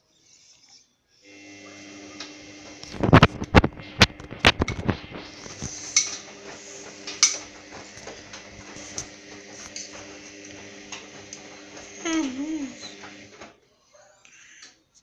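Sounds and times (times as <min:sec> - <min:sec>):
washing machine motor hum: 0:01.2 - 0:13.6.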